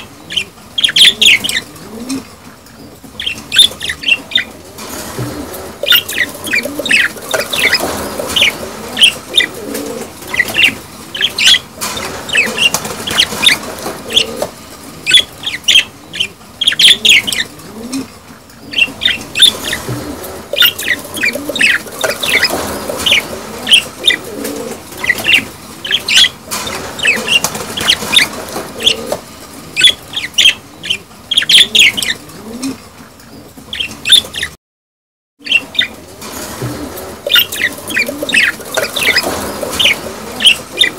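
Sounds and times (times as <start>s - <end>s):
budgerigars chattering and chirping: 0.0s - 1.7s, 3.2s - 17.5s, 18.6s - 32.2s, 33.7s - 34.6s, 35.4s - 36.0s, 37.2s - 40.9s.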